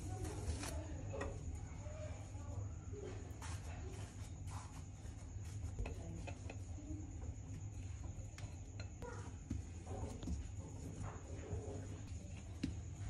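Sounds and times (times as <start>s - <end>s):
dough squishing: 0.0s - 2.2s, 2.9s - 13.0s.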